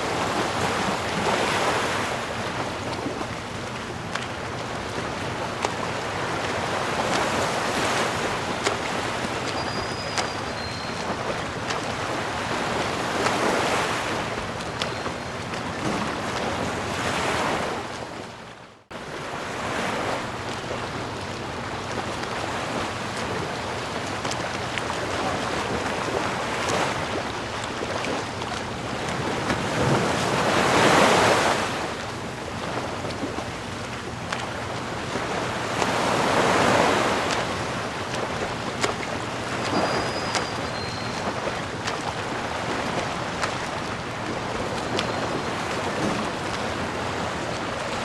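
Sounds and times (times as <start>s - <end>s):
ocean waves washing ashore: 0.0s - 48.0s.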